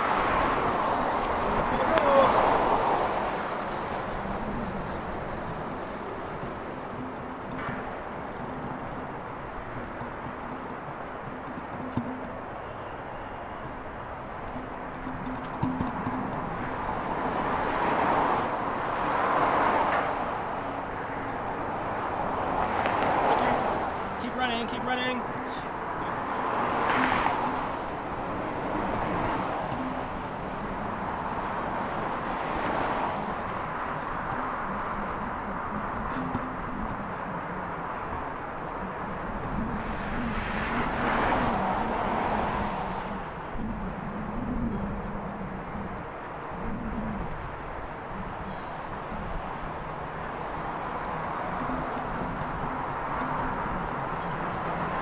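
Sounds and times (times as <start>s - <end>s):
cars passing by: 0.0s - 55.0s
road traffic: 0.0s - 55.0s.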